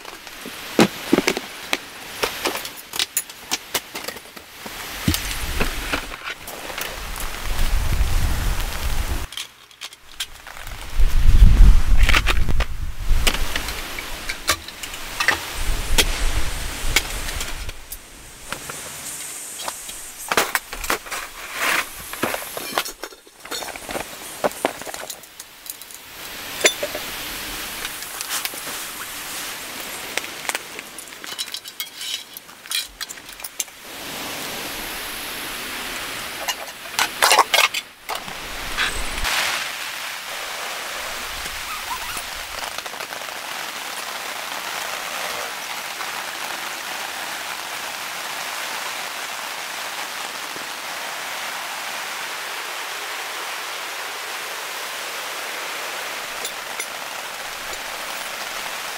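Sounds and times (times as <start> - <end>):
steady outdoor hiss: 0.0 - 58.9.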